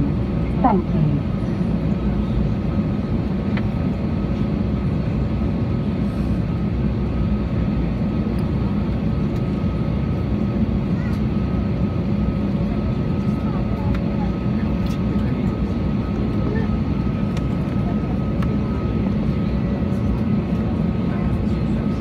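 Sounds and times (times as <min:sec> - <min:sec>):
aircraft engine rumble in cabin: 0:00.0 - 0:22.0.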